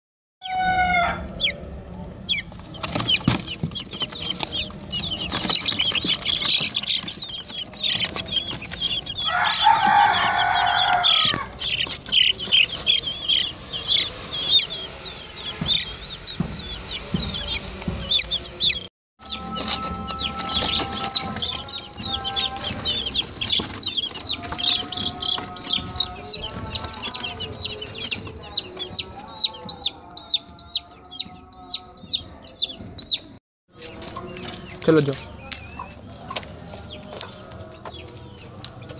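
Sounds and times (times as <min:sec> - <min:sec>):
baby chicks peeping: 0:00.4 - 0:38.9.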